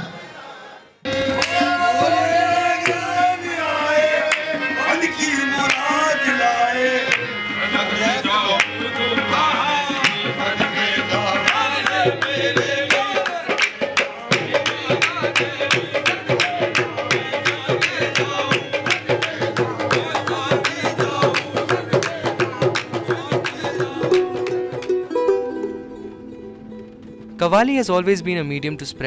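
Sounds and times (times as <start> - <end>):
lead singer and chorus: 0.0 - 24.9
percussion: 1.0 - 25.8
harmonium: 1.0 - 29.0
rhythmic hand clapping: 1.1 - 25.1.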